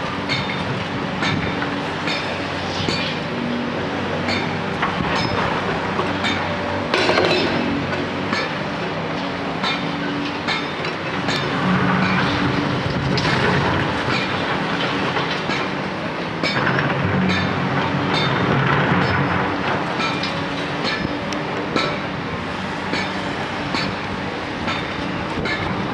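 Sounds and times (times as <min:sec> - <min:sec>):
metallic clanks of steel tracks: 0:00.0 - 0:25.9
excavator diesel engine under load: 0:03.2 - 0:25.9.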